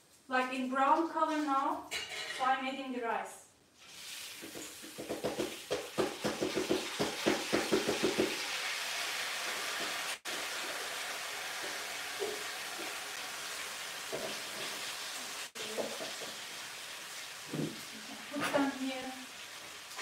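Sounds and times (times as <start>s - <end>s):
rice sizzling in a pot: 3.8s - 20.0s.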